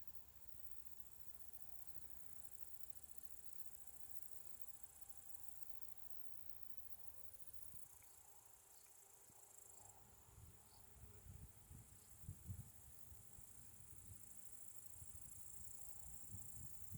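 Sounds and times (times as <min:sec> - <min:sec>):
crickets chirring: 0:00.6 - 0:16.9.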